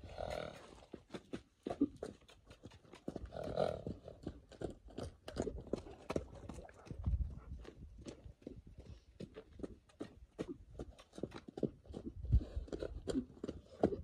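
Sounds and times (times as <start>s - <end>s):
hooves thudding on dirt: 0.0s - 14.0s.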